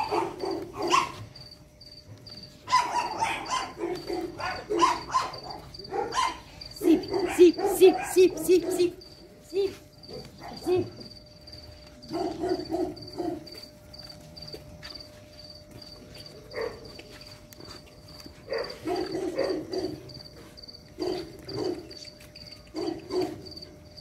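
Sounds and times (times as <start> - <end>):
cricket chirping: 0.0 - 24.0.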